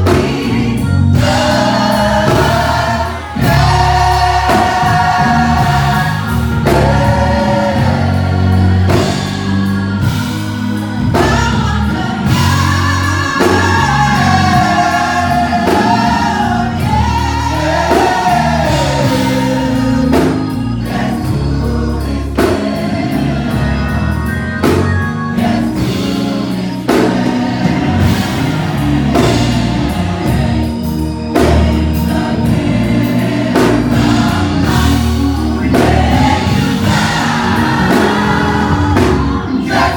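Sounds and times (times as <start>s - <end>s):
bass: 0.0s - 39.9s
gospel choir singing: 0.0s - 39.9s
steady drum beat: 0.0s - 39.9s.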